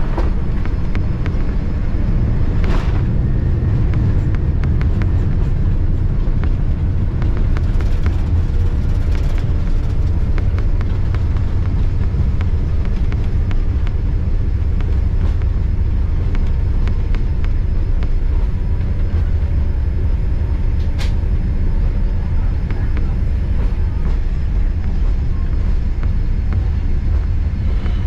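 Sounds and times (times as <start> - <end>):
airliner low rumble: 0.0 - 28.0.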